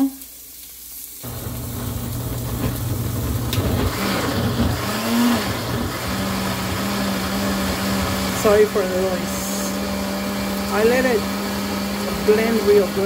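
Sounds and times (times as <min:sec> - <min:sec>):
blender motor running: 0:01.2 - 0:13.0.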